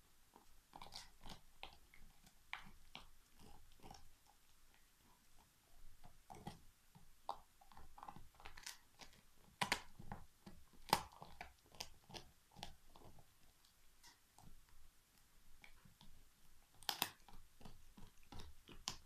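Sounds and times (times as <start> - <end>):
dog crunching a bone: 0.3 - 19.0.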